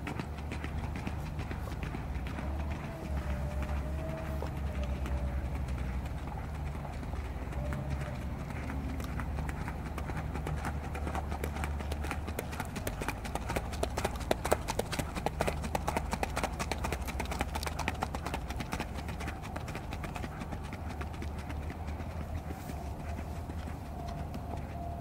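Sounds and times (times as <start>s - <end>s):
horse hooves on sand: 0.0s - 25.0s.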